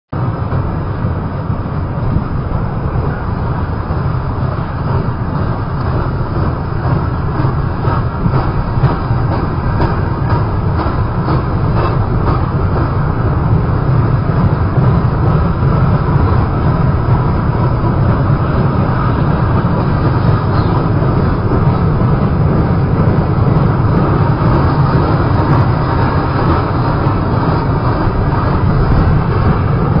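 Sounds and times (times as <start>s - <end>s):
freight train rumbling on rails: 0.1s - 30.0s.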